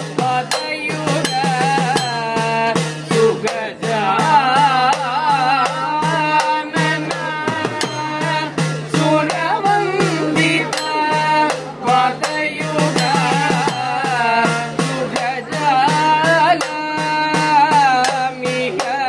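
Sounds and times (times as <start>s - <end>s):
hourglass drum strokes: 0.0s - 19.0s
men singing devotional melody: 0.0s - 19.0s.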